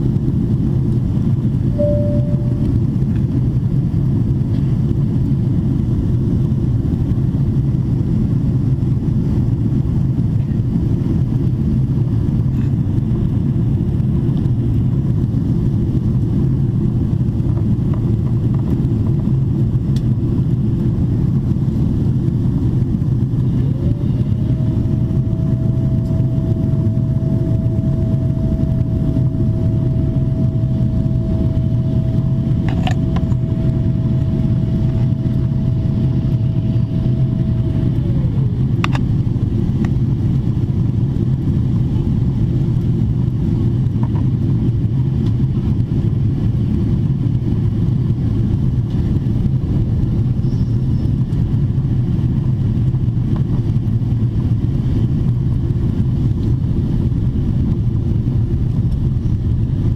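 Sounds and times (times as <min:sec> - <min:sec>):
thin steady whine: 0:00.0 - 0:05.6, 0:10.7 - 0:59.9
airplane cabin drone: 0:00.0 - 0:59.9.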